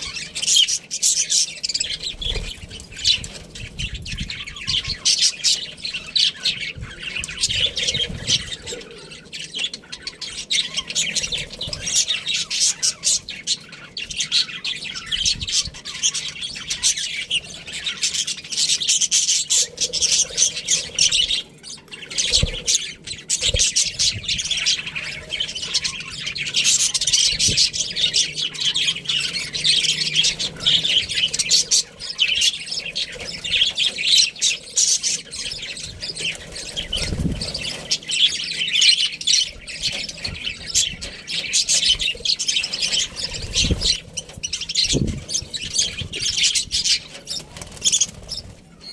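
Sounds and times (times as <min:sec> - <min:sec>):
budgies chirping: 0:00.0 - 0:48.9.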